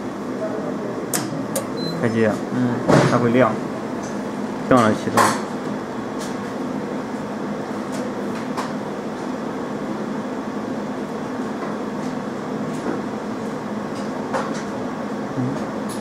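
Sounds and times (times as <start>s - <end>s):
laser welding machine hum: 0.0s - 16.0s.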